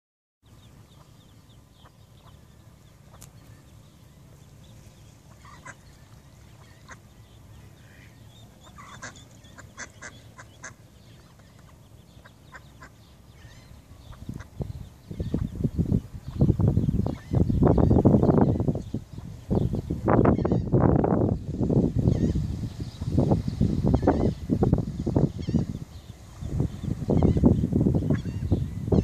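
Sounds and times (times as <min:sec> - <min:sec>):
duck and ducklings calling: 0:00.4 - 0:29.0.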